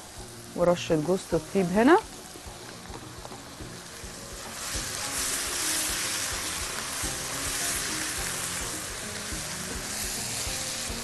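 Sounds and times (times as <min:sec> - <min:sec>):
background music with steady beat: 0:00.0 - 0:11.0
meat sizzling in a pan: 0:00.0 - 0:11.0.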